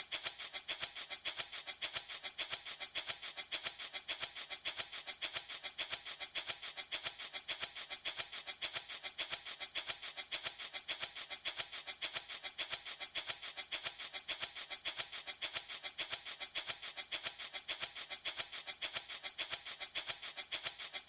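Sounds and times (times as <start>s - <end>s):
baby rattle shaken rapidly: 0.0s - 21.0s.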